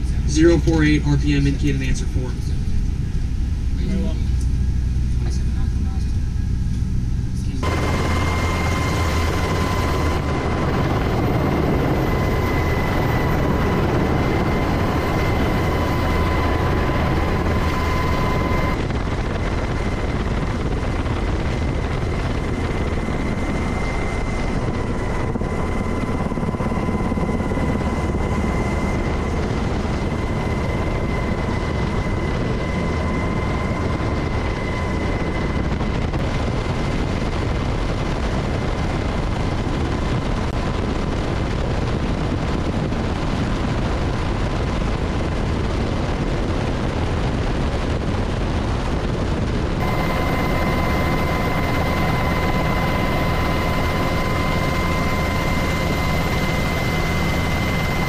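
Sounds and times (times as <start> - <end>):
helicopter rotor and turbine: 0.0 - 58.0.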